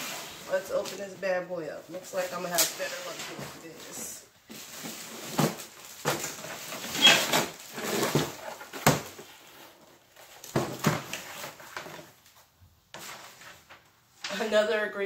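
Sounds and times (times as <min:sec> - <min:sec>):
cardboard and plastic wrap rustling: 0:00.0 - 0:14.6.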